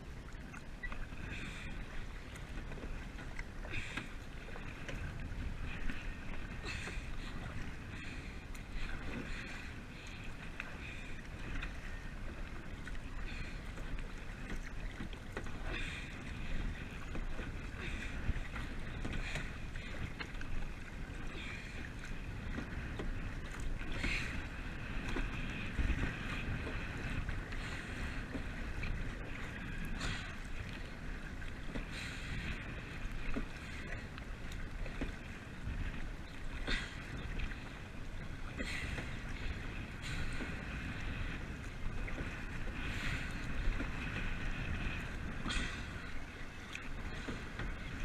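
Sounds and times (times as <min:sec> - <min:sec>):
wind on microphone: 0:00.0 - 0:48.0.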